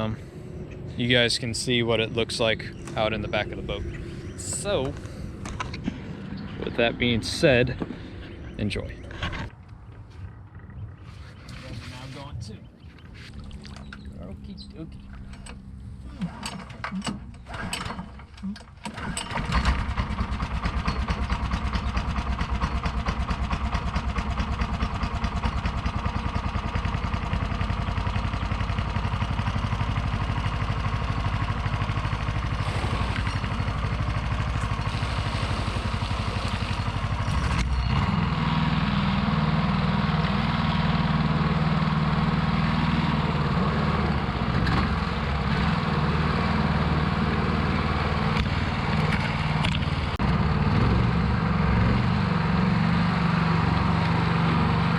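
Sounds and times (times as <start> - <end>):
boat motor engine running: 0.0 - 54.9.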